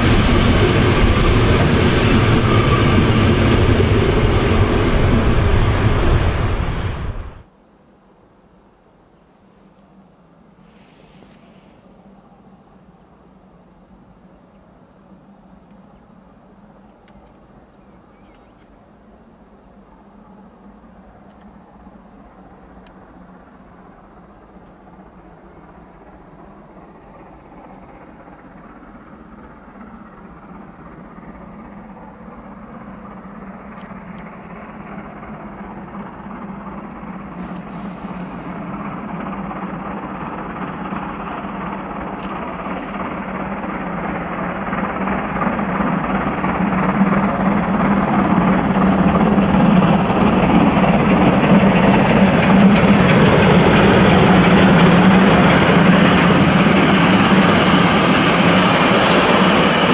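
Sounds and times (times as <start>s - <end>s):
steam locomotive passing: 0.0s - 7.5s, 18.8s - 59.9s.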